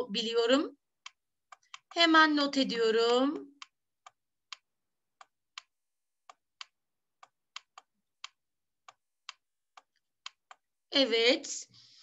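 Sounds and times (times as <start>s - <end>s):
stylus tapping screen: 0.9s - 10.8s.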